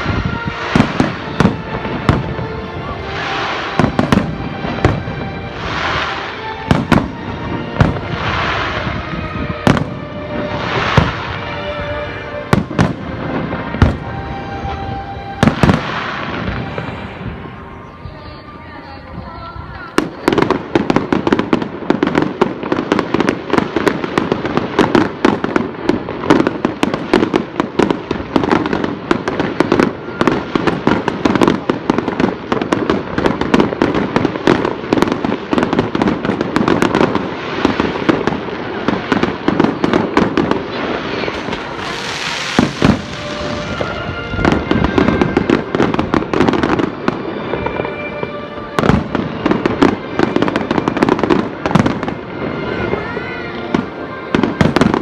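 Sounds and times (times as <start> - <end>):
fireworks hissing: 0.0 - 18.3, 19.8 - 55.0
fireworks bangs and crackles: 0.0 - 55.0.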